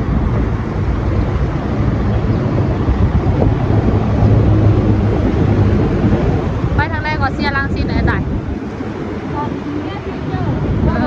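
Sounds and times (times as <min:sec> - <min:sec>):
vehicle engine rumble: 0:00.0 - 0:11.0
wind buffeting microphone: 0:00.0 - 0:11.0.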